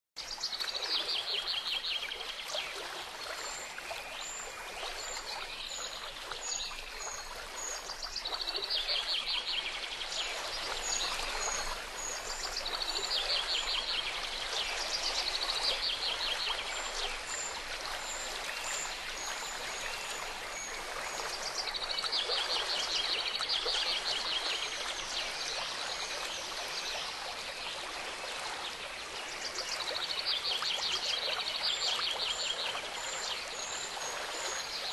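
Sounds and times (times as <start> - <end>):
babbling stream: 0.2 - 34.9.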